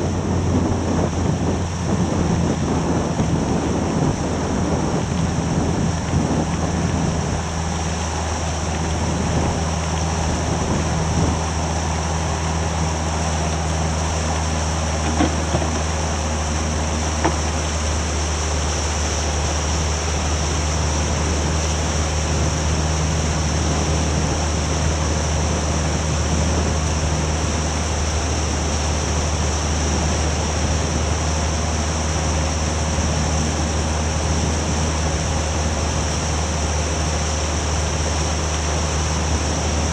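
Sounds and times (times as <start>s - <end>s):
outboard motor humming: 0.0s - 39.9s
rushing water: 0.0s - 39.9s
wind: 0.0s - 39.9s.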